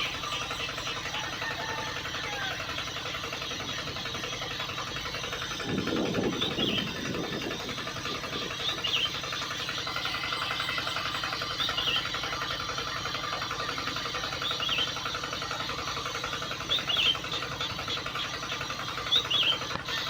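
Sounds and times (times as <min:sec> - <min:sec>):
small motor ticking: 0:00.0 - 0:20.0.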